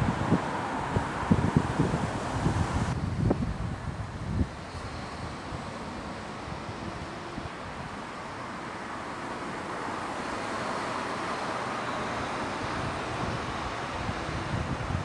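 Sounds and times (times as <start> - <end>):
wind buffeting microphone: 0.0 - 10.3, 11.2 - 15.0
road traffic rushing: 0.0 - 15.0.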